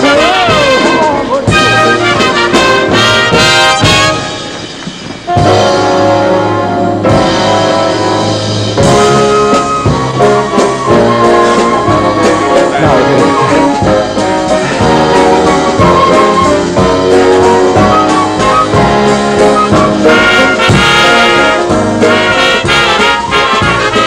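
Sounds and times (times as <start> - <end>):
upbeat brass band music: 0.0 - 24.0.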